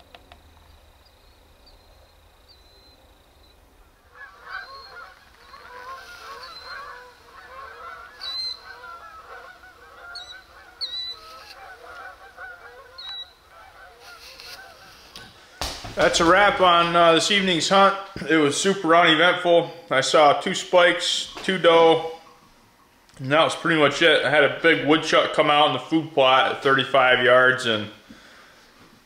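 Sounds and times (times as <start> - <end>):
geese honking: 2.5 - 27.3.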